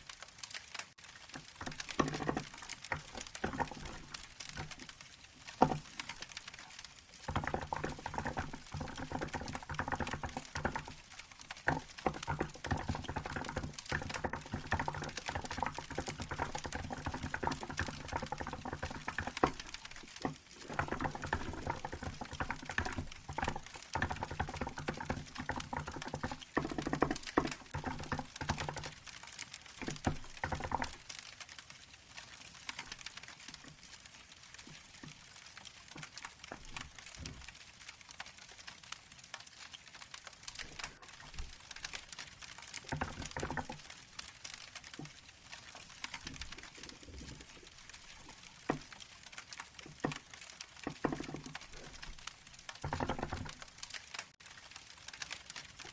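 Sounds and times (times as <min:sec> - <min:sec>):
faint crackle: 0:00.0 - 0:55.9.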